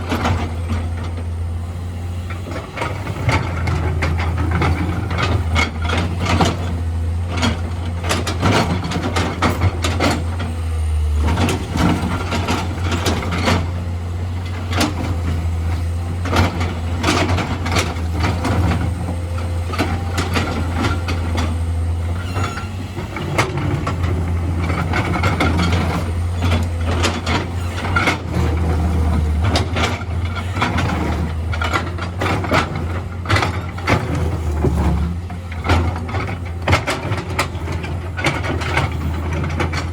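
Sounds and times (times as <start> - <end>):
diesel machinery engine drone: 0.0 - 39.9
machinery knocks and clanks: 2.3 - 39.9.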